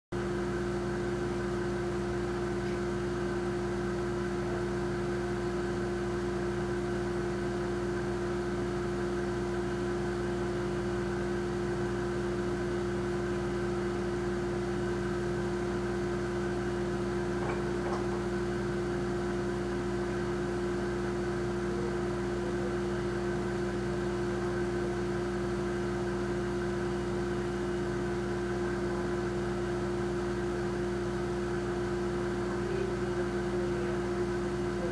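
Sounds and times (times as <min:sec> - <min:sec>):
refrigerator compressor humming: 0:00.1 - 0:34.9.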